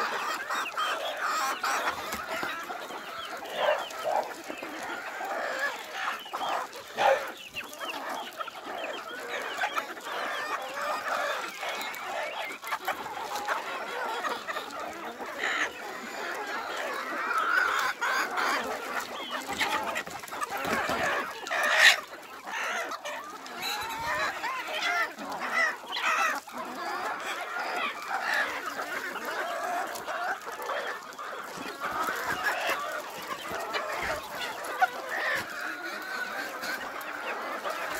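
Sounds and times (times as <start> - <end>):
hens clucking: 0.0 - 37.9.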